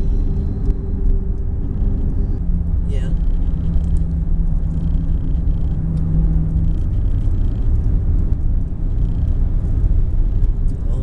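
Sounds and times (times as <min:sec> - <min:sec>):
strong wind rumble: 0:00.0 - 0:11.0
vehicle engine hum: 0:00.0 - 0:11.0.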